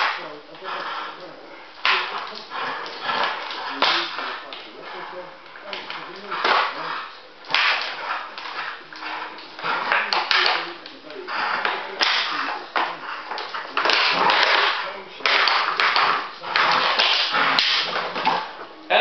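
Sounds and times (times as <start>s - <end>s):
dogs play-growling: 0.0s - 18.9s.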